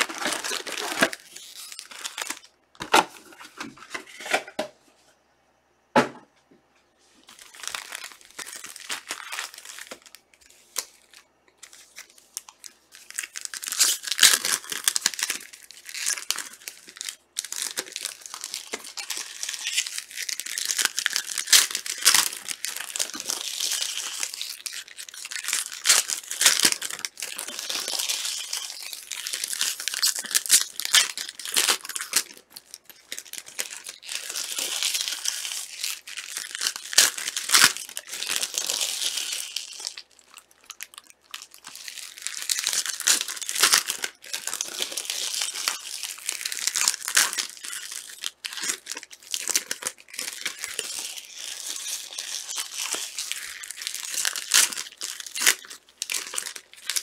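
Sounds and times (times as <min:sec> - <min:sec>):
wrappers tearing and crinkling: 0:00.0 - 0:04.3, 0:07.2 - 0:57.0.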